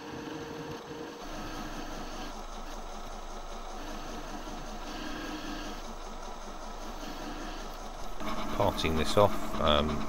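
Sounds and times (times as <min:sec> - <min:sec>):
metal lathe cutting: 0:01.2 - 0:10.0.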